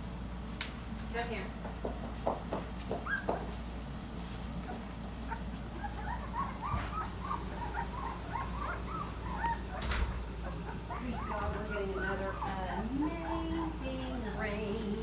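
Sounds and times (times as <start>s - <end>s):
puppies whimpering: 2.9s - 15.0s.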